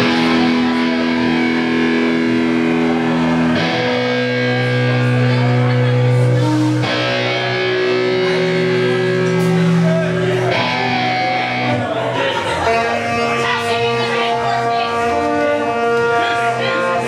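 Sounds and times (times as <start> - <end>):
distorted electric guitar chords: 0.0 - 17.0
live ska band playing: 0.0 - 17.0.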